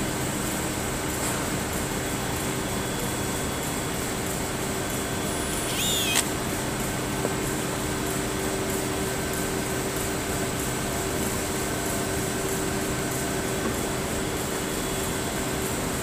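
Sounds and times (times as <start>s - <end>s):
workshop machinery hum: 0.4s - 16.0s.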